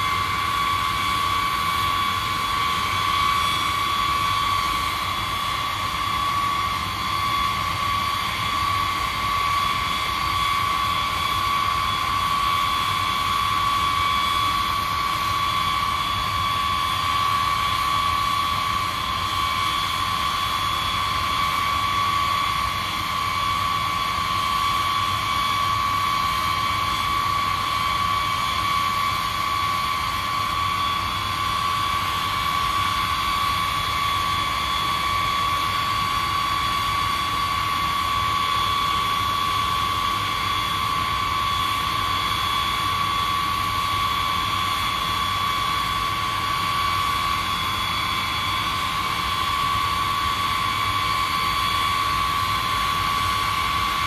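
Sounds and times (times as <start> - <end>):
jet engine roar: 0.0 - 54.0
jet engines whining: 0.0 - 54.0.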